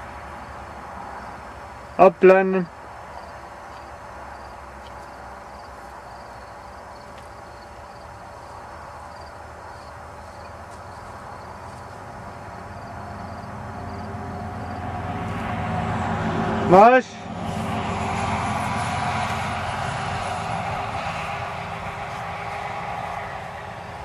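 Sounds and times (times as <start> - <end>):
insects chirping: 0.0 - 16.2, 17.4 - 24.0
vehicle passing: 0.0 - 24.0.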